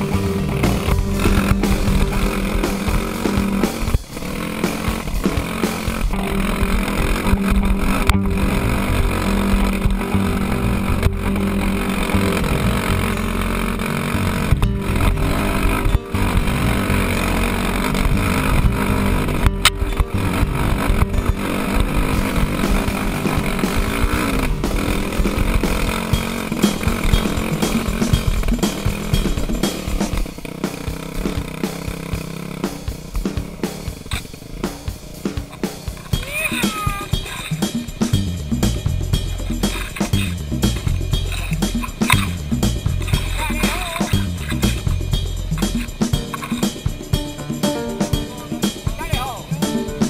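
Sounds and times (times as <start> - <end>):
dirt bike engine under load: 0.0 - 38.5, 39.1 - 50.0.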